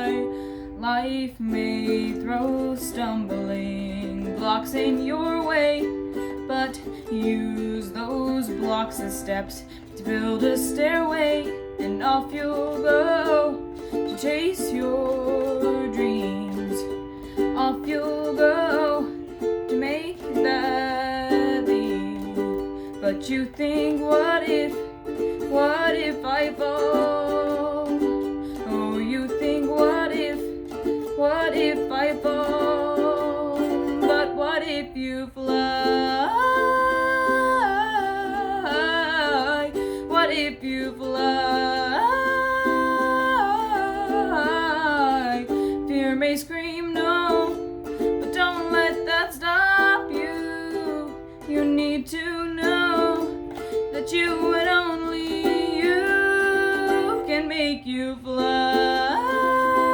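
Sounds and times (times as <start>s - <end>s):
woman singing: 0.0s - 59.9s.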